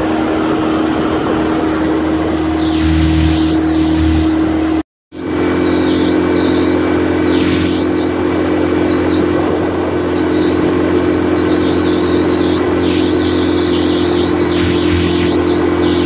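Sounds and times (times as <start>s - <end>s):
outboard motor running: 0.0s - 16.0s
water rushing: 0.0s - 16.0s
wind: 0.0s - 16.0s.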